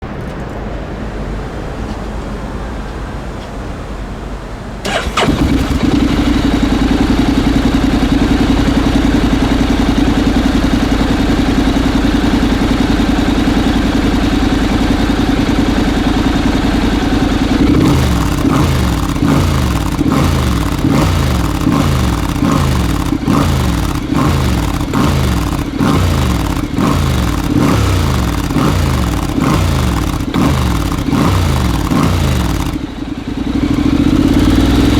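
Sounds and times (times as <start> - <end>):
motorcycle engine idling and revving: 4.8 - 34.9.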